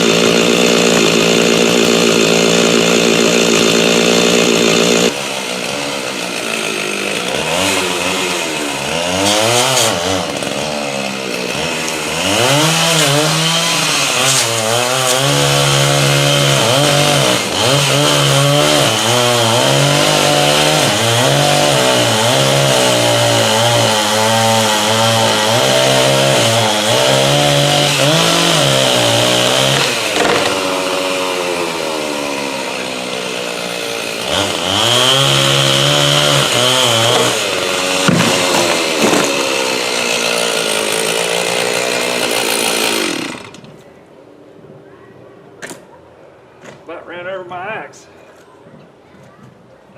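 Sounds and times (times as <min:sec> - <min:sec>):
chainsaw cutting wood: 0:00.0 - 0:43.8.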